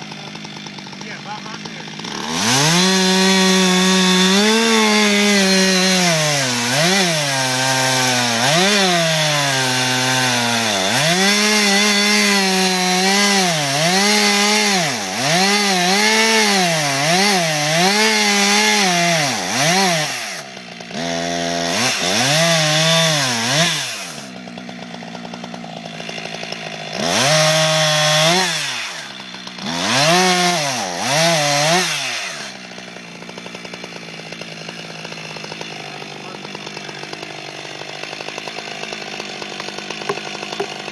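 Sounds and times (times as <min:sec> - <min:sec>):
chainsaw cutting wood: 0:00.0 - 0:40.9
chainsaw idling and revving: 0:00.0 - 0:40.9.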